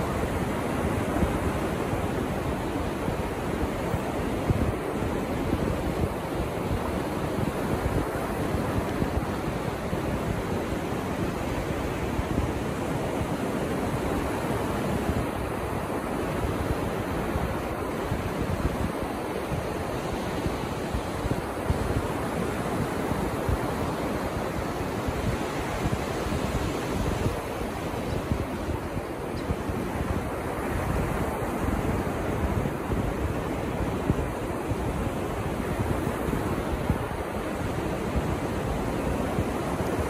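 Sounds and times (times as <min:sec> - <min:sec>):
ocean surf breaking on a beach: 0:00.0 - 0:40.0
wind rumbling on microphone: 0:00.0 - 0:40.0.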